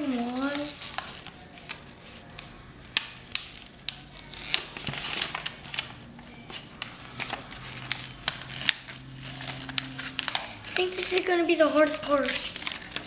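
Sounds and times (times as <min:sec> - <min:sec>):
paper crackling and crinkling: 0:00.0 - 0:13.0.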